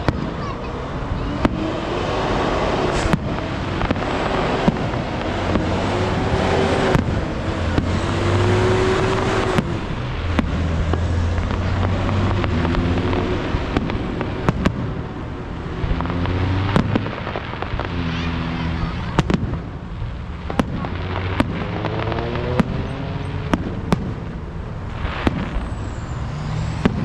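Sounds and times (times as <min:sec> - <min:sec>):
fireworks crackling and rumbling: 0:00.0 - 0:27.0.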